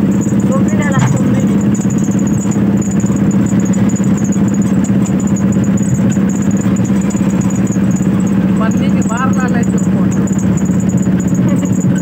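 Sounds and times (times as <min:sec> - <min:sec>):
vehicle engine pulsing hum: 0:00.0 - 0:12.0.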